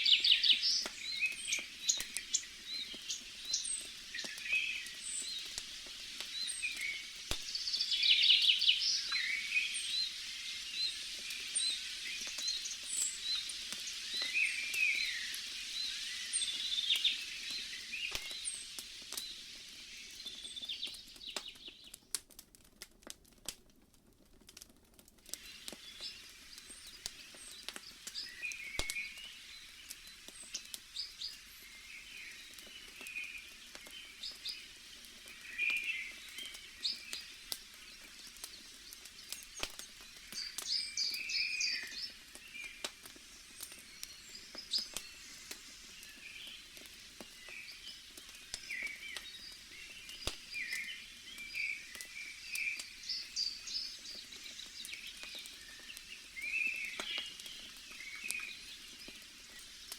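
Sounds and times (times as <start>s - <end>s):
small birds chirping: 0.0s - 22.4s, 25.2s - 59.9s
faint steady hiss: 0.0s - 59.9s
wood fire crackling: 0.0s - 59.9s.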